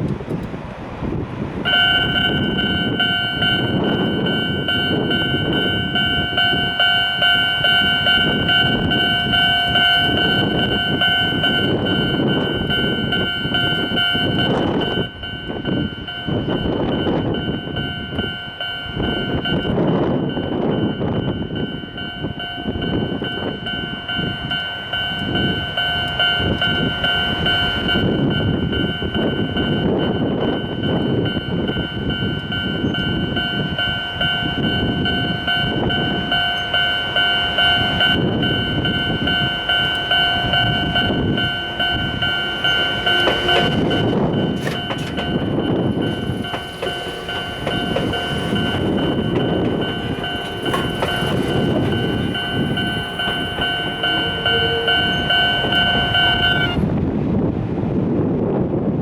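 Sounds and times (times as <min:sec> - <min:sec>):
train passing: 0:00.0 - 0:58.6
level crossing alarm ringing: 0:01.6 - 0:56.9.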